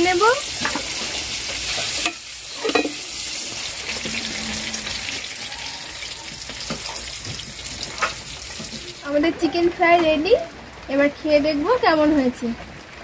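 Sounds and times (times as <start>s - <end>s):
chicken deep-frying in oil: 0.0s - 12.3s.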